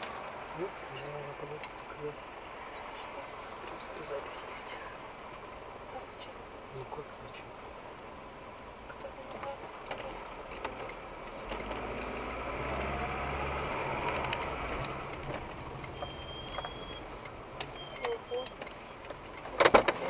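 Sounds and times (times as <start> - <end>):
car engine pulling away: 0.0 - 20.0.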